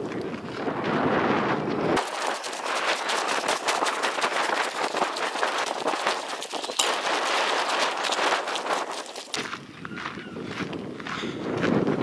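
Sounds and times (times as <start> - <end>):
footsteps crunching on gravel: 2.0 - 12.0.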